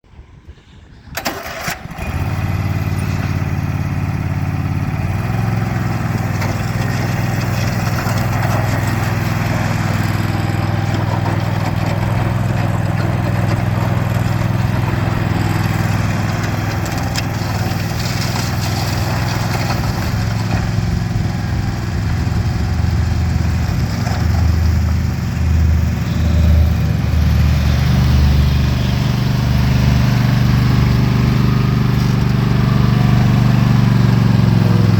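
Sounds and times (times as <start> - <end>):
mower engine running: 1.0 - 34.9.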